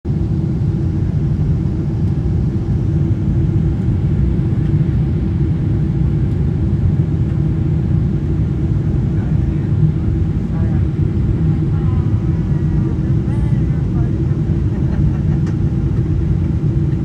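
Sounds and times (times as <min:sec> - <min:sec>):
airplane cabin rumble: 0:00.1 - 0:17.0.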